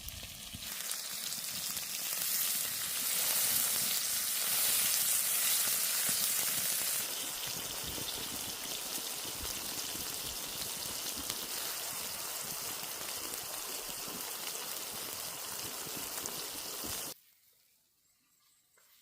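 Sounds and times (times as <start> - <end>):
food sizzling in hot fat: 0.0 - 17.2.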